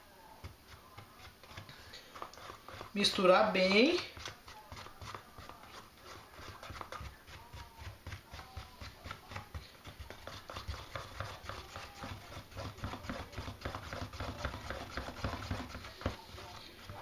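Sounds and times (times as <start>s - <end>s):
stick scraping plastic tub: 1.0s - 17.0s.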